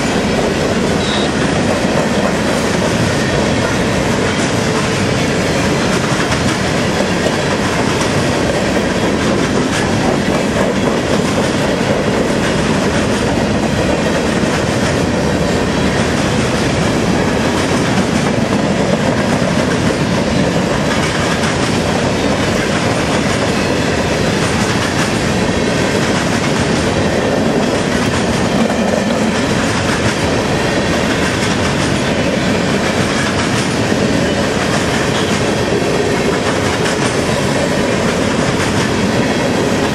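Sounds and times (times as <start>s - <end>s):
steel train wheels on rails: 0.0s - 39.9s.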